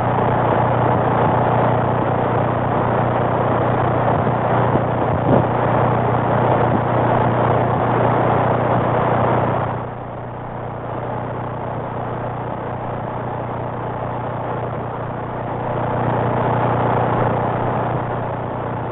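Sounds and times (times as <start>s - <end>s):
radio static hiss: 0.0s - 18.9s
steady low hum: 0.0s - 18.9s.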